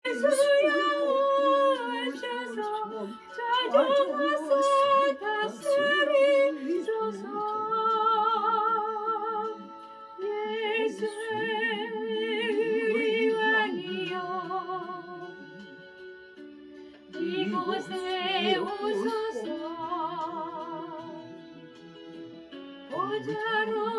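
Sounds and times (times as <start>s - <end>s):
gospel praise music: 0.0s - 23.9s.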